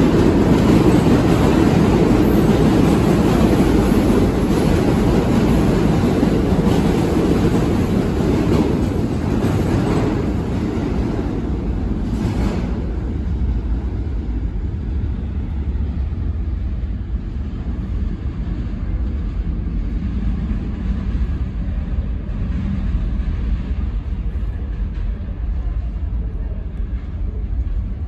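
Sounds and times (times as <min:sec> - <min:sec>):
subway train rumbling in tunnel: 0:00.0 - 0:28.0.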